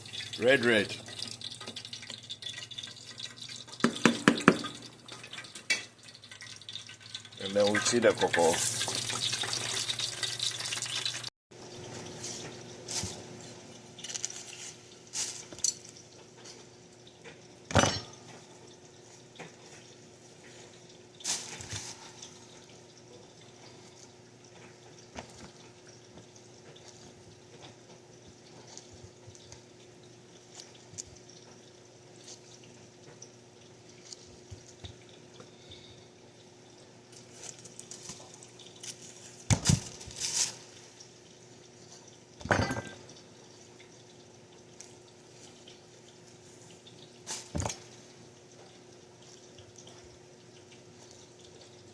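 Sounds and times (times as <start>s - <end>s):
pot of beans simmering: 0.0s - 51.9s.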